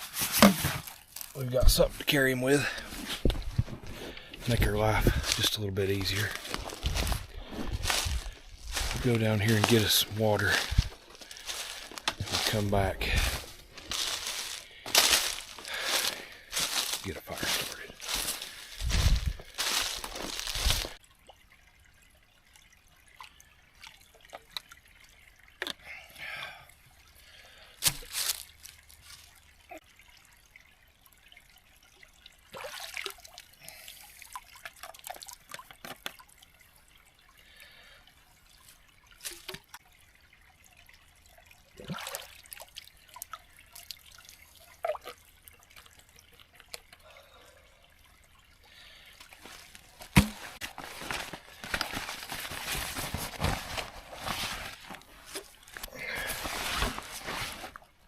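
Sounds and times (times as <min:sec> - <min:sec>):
bottles being filled with splashes: 0:00.0 - 0:21.9, 0:31.5 - 0:58.0
water trickling and dripping: 0:00.2 - 0:58.0.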